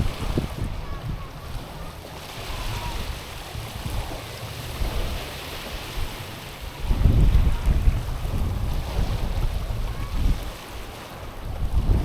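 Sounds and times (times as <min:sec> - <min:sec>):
waves washing over stones: 0:00.0 - 0:12.0
wind buffeting microphone: 0:00.0 - 0:12.0.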